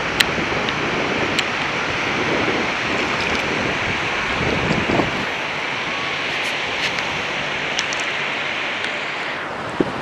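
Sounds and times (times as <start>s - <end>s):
sea surf rushing: 0.0s - 10.0s
wind buffeting microphone: 0.0s - 10.0s.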